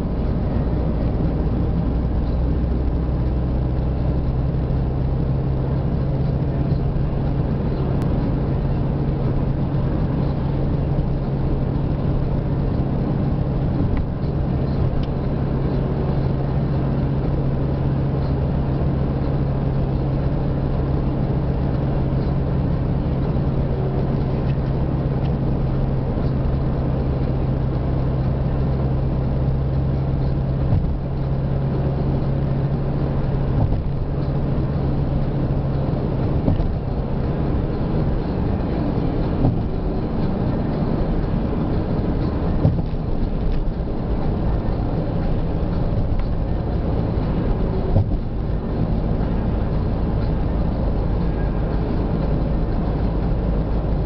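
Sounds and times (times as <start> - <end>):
car engine hum: 0.0 - 54.0.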